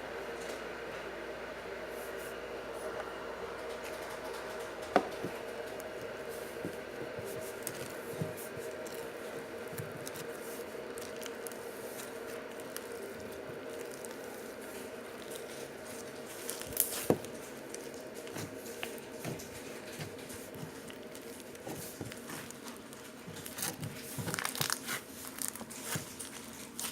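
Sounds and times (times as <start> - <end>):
steady background hum: 0.0 - 26.9
slime squelching: 5.2 - 26.9.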